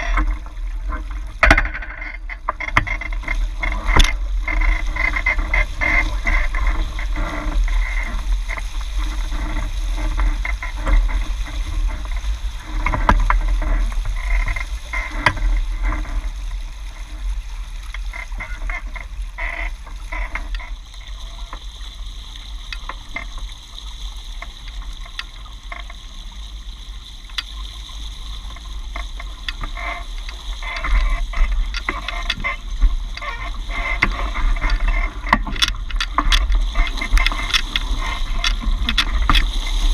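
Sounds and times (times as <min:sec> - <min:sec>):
water splashing along boat hulls: 0:00.0 - 0:39.9
wind rumble on microphone: 0:00.0 - 0:39.9.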